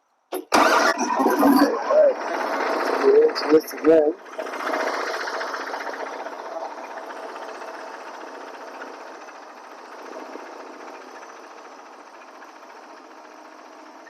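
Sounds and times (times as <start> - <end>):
bandsaw mill cutting a log: 0.3 - 11.6.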